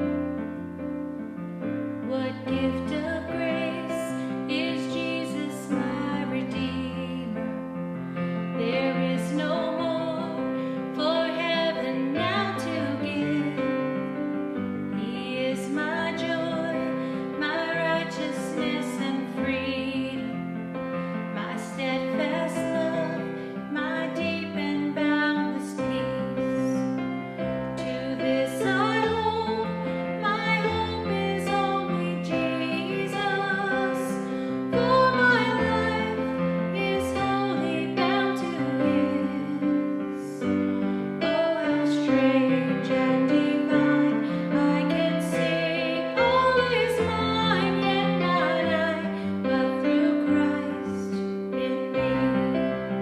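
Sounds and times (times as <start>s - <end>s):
piano accompaniment: 0.0s - 53.0s
woman singing: 2.0s - 7.7s, 8.4s - 27.1s, 27.8s - 53.0s.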